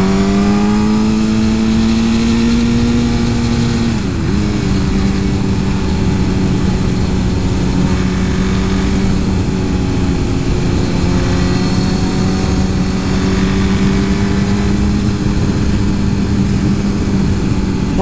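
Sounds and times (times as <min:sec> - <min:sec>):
motorcycle engine running: 0:00.0 - 0:18.0
wind rumbling on microphone: 0:00.0 - 0:18.0.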